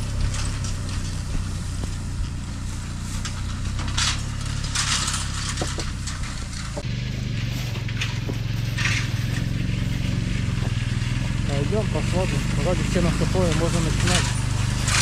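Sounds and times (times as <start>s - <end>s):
rustling: 0.0s - 11.6s, 12.9s - 15.0s
small engine humming: 0.0s - 15.0s.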